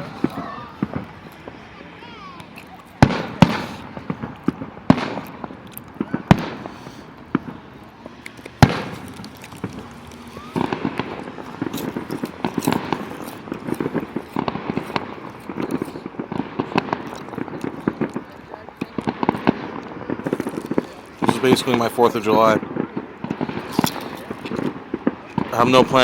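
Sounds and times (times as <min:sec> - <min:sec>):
firework bangs: 0:00.0 - 0:26.0
firework pops and crackling: 0:00.0 - 0:26.0.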